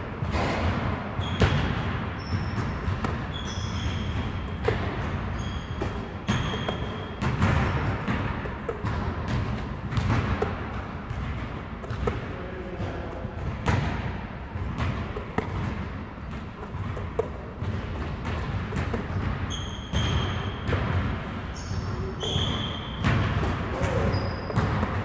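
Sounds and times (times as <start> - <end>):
basketball thudding: 0.2 - 12.3, 13.4 - 21.5, 22.2 - 25.0.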